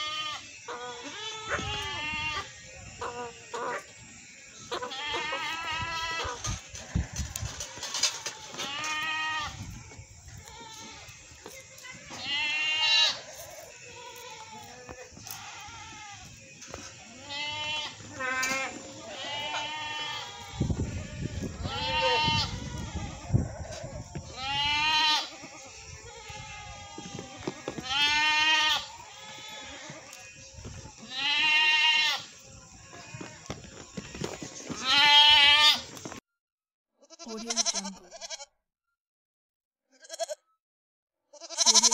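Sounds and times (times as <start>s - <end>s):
goats bleating: 0.0s - 3.8s, 4.6s - 36.0s, 37.0s - 38.5s, 41.3s - 41.9s.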